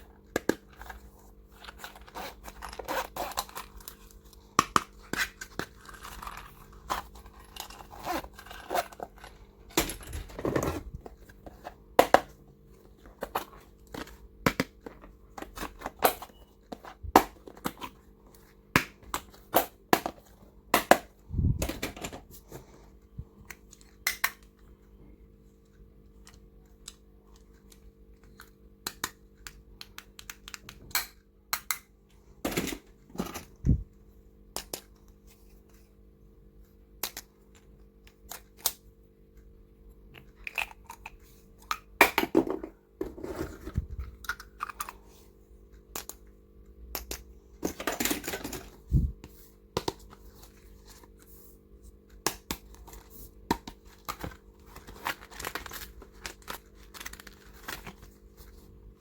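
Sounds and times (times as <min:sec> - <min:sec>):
faint steady hum: 0:00.0 - 0:59.0
stationery items clicking and rustling: 0:00.2 - 0:24.8, 0:32.3 - 0:33.8, 0:37.0 - 0:59.0.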